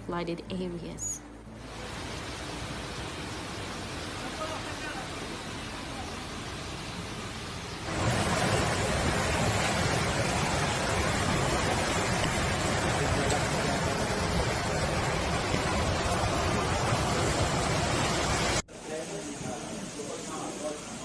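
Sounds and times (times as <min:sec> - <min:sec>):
water rushing: 0:01.3 - 0:21.0.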